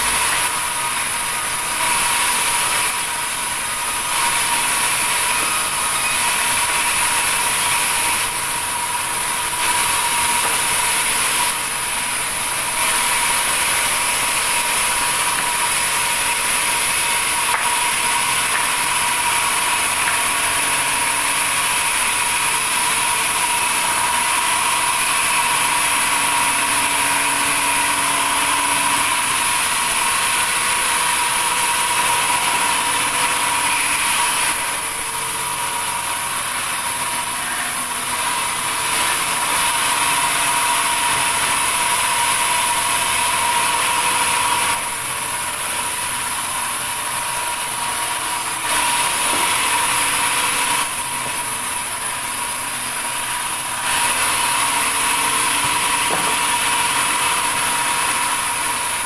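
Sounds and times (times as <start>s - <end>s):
band saw whining: 0.0s - 59.0s.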